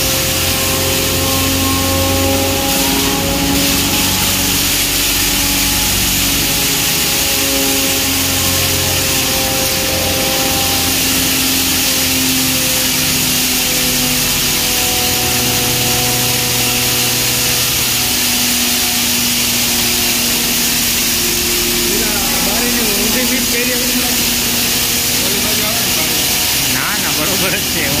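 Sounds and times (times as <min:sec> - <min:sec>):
faint hums: 0:00.0 - 0:28.0
hammer mill running: 0:00.0 - 0:28.0.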